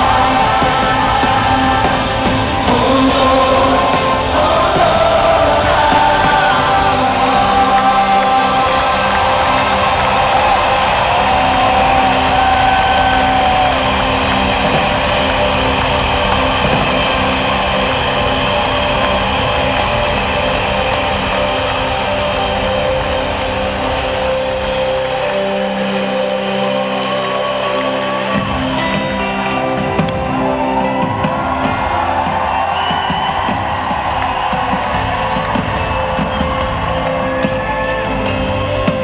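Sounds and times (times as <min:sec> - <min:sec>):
live worship band music: 0:00.0 - 0:39.0.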